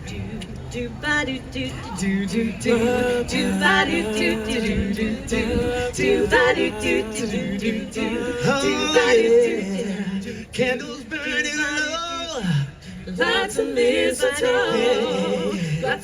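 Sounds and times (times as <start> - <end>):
a cappella group singing: 0.0 - 16.0.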